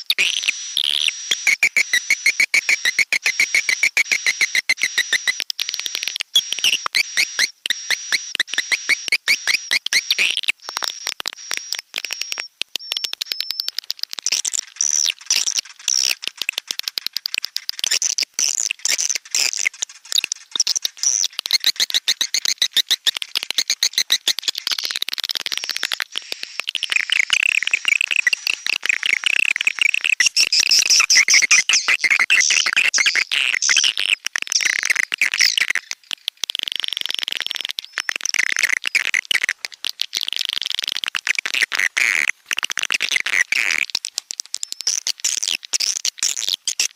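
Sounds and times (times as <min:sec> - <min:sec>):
recorded swiftlet chirps and clicks: 0:00.0 - 0:46.9.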